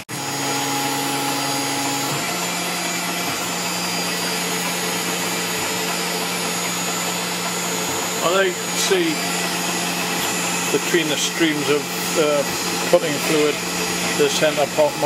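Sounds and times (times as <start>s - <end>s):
higher machine hum: 0.0s - 15.0s
milling machine whirring: 0.0s - 15.0s.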